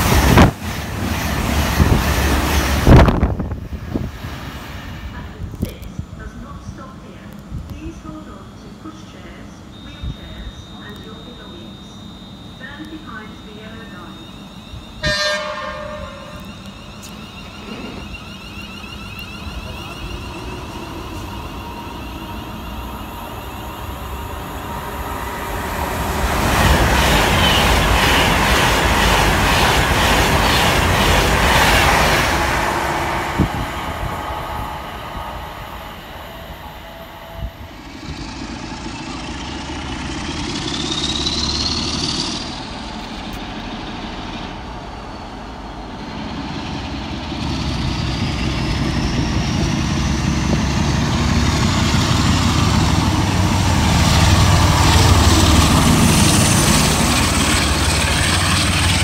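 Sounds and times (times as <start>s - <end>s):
electric train rushing past: 0.0s - 7.0s, 7.6s - 59.0s
diesel locomotive engine rumbling: 0.0s - 59.0s
locomotive whine: 0.0s - 59.0s.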